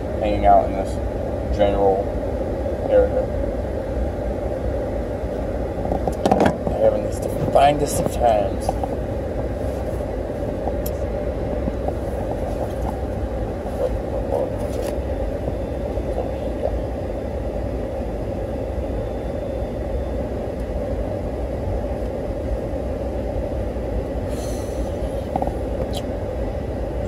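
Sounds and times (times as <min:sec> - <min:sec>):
car cabin engine rumble: 0:00.0 - 0:27.0.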